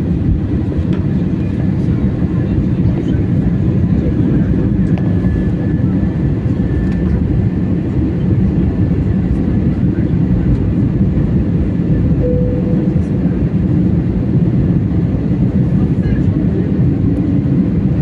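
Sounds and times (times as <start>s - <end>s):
airliner engines and airflow in cabin: 0.0s - 18.0s.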